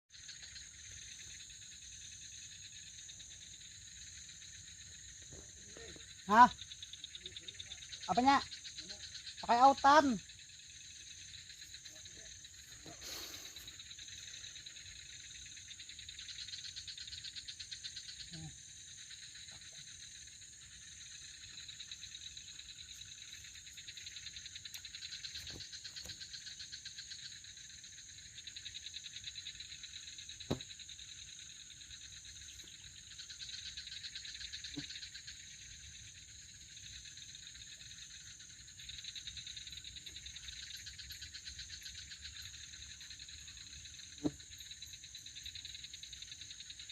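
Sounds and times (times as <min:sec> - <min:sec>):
crickets and insects trilling: 0:00.1 - 0:46.9.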